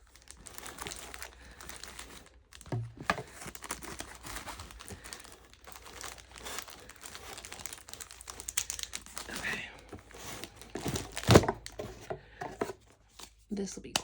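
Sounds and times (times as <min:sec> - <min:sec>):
paper packaging crinkling: 0:00.0 - 0:13.5.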